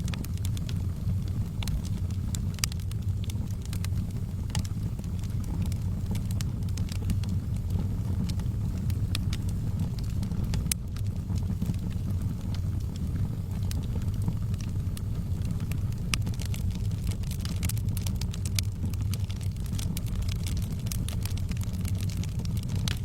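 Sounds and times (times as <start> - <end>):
fire crackles and pops: 0.0 - 23.0
low rumble of flames: 0.0 - 23.0.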